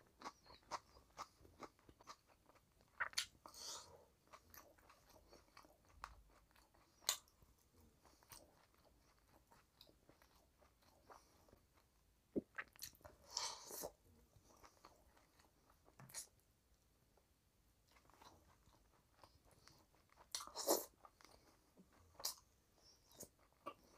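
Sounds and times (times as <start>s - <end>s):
person chewing food: 0.0s - 16.4s, 17.8s - 23.9s.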